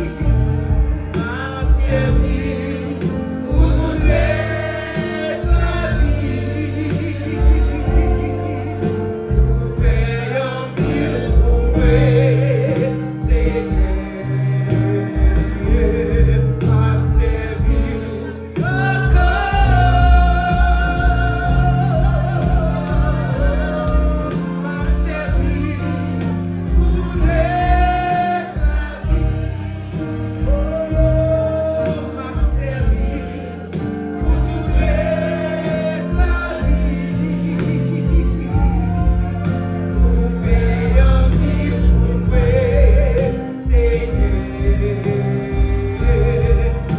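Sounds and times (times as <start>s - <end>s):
gospel singing with bass and beat: 0.0s - 46.9s.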